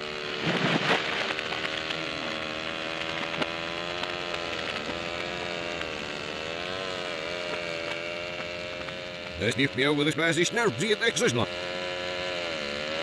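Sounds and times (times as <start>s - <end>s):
reversed chainsaw engine: 0.0s - 13.0s.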